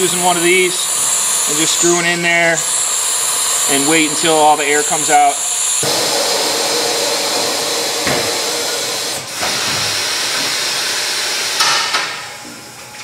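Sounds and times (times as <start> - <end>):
air hissing out of tire valve: 0.4 - 11.9.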